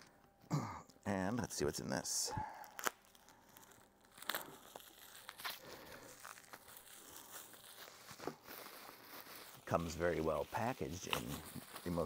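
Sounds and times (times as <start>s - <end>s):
bubble wrap crinkling: 1.5s - 12.0s.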